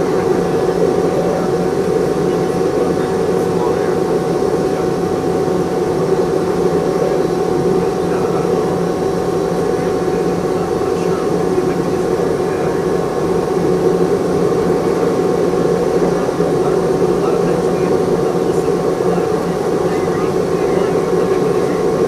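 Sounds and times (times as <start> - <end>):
aircraft cabin engine rush: 0.0 - 22.0
faint constant whine: 0.0 - 22.0.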